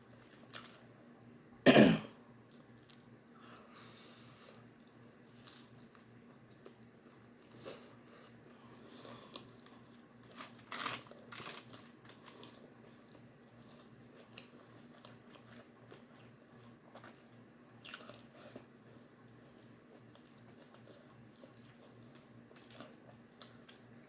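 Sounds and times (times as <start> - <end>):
person chewing crunchy food: 2.5 - 23.9.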